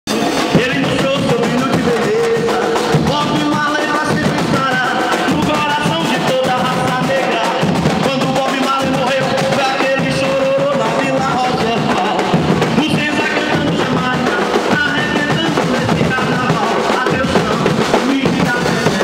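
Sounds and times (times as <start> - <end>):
drum group playing: 0.1 - 19.0.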